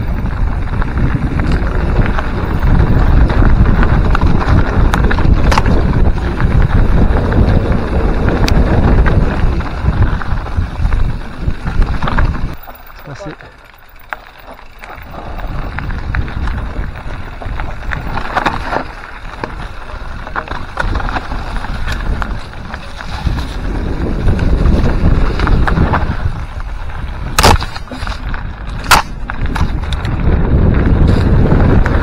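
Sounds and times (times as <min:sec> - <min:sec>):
wind buffeting microphone: 0:00.0 - 0:13.2, 0:13.9 - 0:32.0
bike rattles and clicks: 0:00.0 - 0:32.0
tyres rumbling over dirt: 0:00.0 - 0:32.0.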